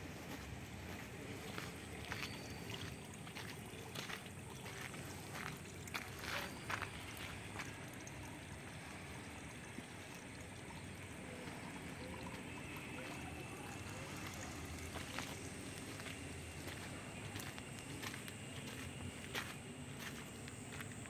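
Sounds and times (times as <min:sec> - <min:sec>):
outdoor hiss and rumble: 0:00.0 - 0:21.0.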